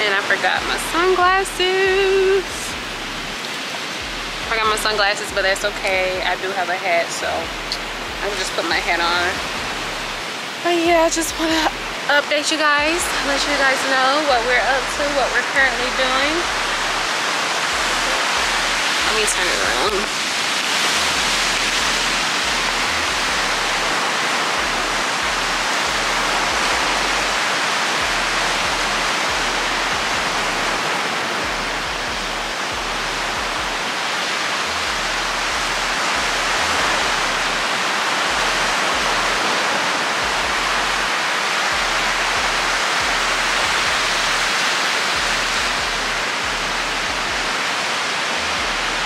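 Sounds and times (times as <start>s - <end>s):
ocean surf: 0.0s - 49.0s.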